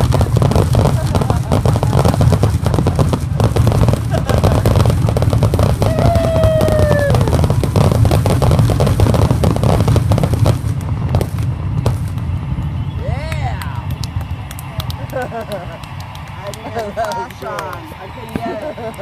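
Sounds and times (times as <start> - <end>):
falling firework whistle: 0.0 - 19.0
fireworks bangs and crackling: 0.0 - 19.0
low rumble: 0.0 - 19.0.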